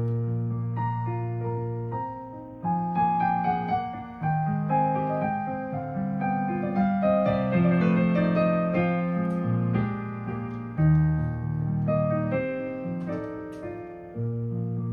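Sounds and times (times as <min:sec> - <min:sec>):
solo piano melody: 0:00.0 - 0:14.9.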